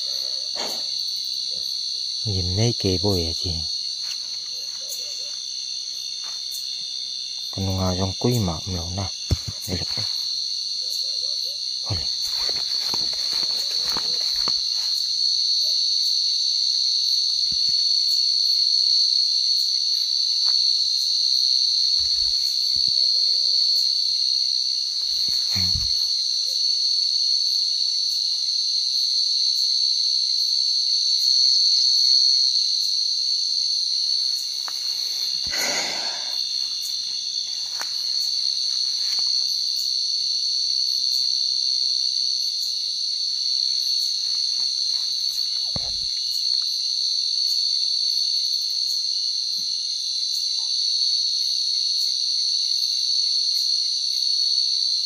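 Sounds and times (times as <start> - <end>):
night insects trilling: 0.0 - 55.0.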